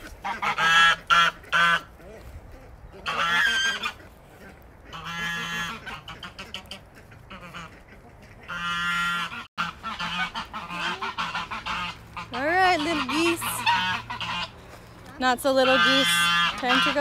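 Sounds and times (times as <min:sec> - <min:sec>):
geese honking: 0:00.0 - 0:02.3, 0:02.9 - 0:17.0.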